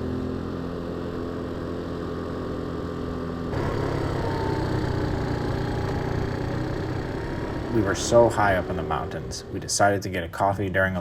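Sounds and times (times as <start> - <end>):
motorbike engine running: 0.0 - 10.1.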